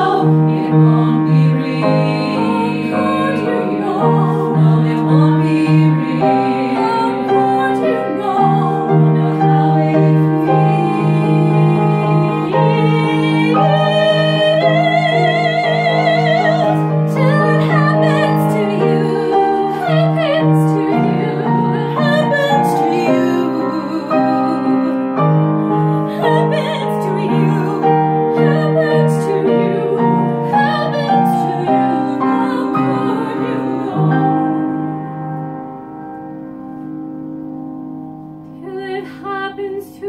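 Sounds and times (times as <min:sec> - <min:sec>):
women singing in harmony: 0:00.0 - 0:35.6, 0:38.6 - 0:40.0
sustained piano chords: 0:00.0 - 0:40.0.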